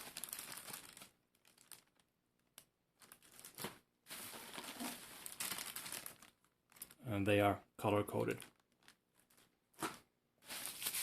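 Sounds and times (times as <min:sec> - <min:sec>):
packaging crinkling: 0:00.0 - 0:07.0, 0:08.1 - 0:11.0.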